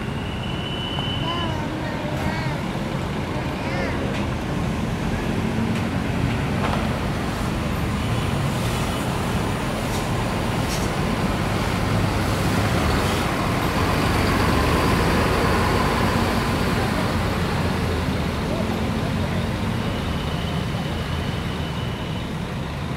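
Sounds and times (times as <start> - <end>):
bus diesel engine running: 0.0 - 22.9.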